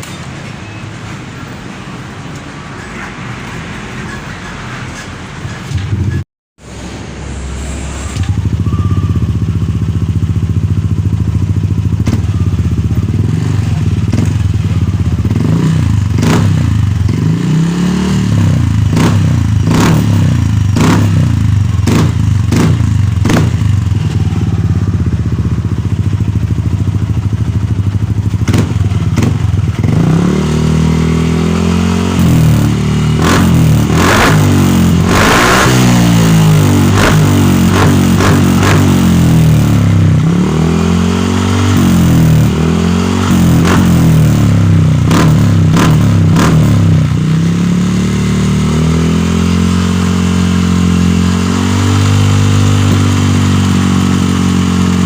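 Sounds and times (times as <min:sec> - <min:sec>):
scooter engine revving: 0:07.8 - 0:55.0.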